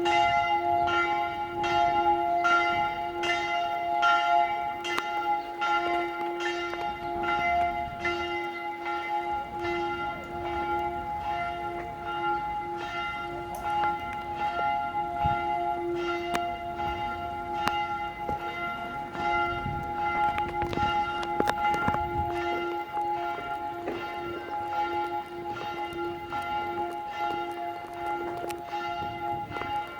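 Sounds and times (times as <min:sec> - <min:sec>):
church bells ringing: 0:00.0 - 0:29.9.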